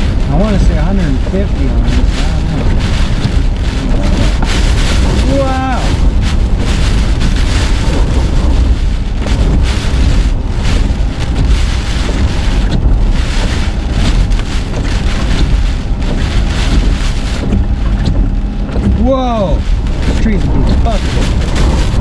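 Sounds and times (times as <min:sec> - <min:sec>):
hurricane wind rushing: 0:00.0 - 0:22.0
wind buffeting microphone: 0:00.0 - 0:22.0.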